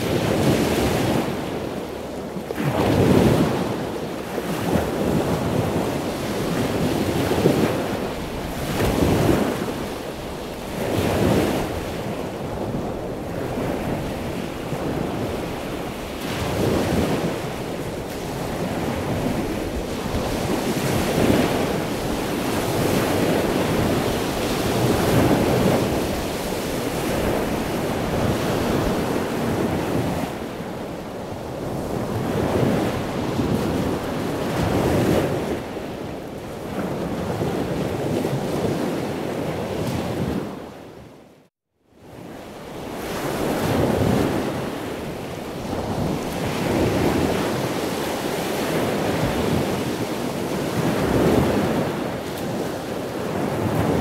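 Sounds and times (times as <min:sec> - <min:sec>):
waves breaking on sandy beach: 0:00.0 - 0:54.0.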